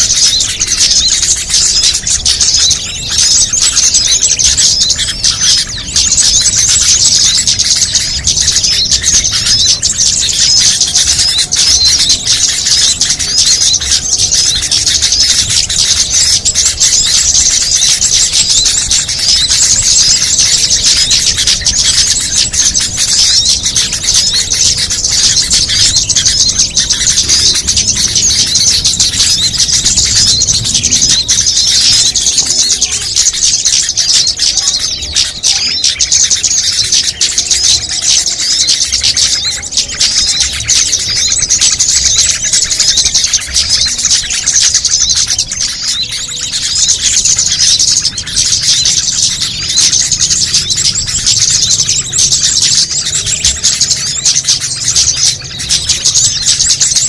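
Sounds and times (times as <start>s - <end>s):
small songbirds chirping and trilling: 0.0s - 57.0s.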